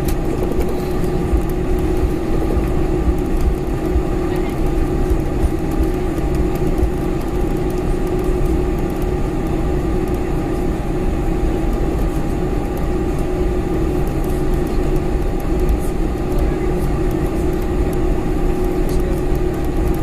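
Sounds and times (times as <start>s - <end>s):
airplane cabin engine rumble: 0.0s - 20.0s
constant low hum: 0.0s - 20.0s.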